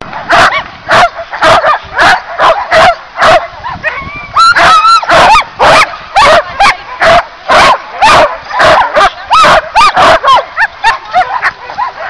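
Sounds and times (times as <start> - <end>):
dogs barking: 0.1 - 12.0
dogs yipping and whining: 0.3 - 12.0.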